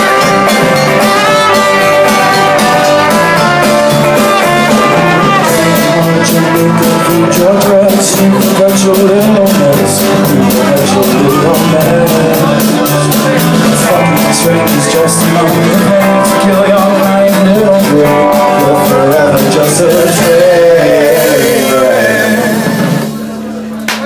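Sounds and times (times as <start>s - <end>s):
person singing: 0.0s - 23.4s
strummed acoustic guitar: 0.0s - 23.5s
drums keeping a beat: 0.0s - 24.0s.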